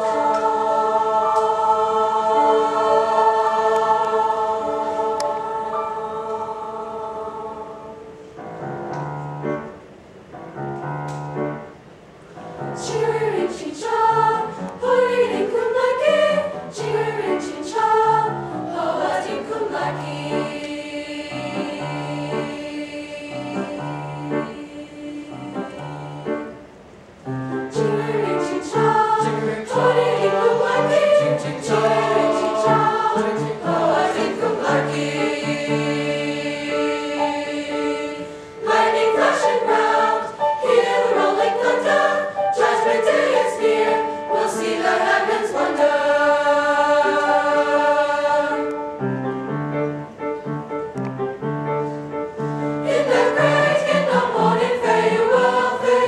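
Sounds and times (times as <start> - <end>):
mixed-voice choir singing: 0.0 - 8.6, 12.6 - 26.7, 27.5 - 49.1, 52.4 - 56.0.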